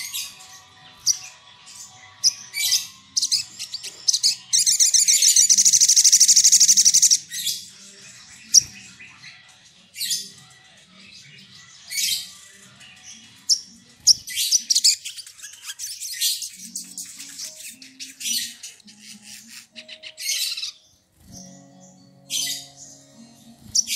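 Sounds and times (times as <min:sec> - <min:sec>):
bird trilling and chirping: 0:00.0 - 0:10.5, 0:11.2 - 0:23.9.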